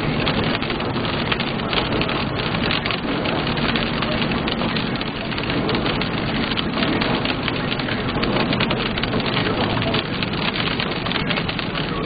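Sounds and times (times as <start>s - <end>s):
rain pattering on car: 0.0s - 12.0s.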